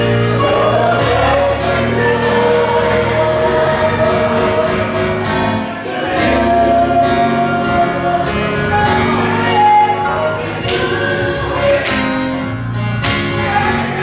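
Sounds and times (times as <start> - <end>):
gospel choir singing with instruments: 0.0 - 14.0.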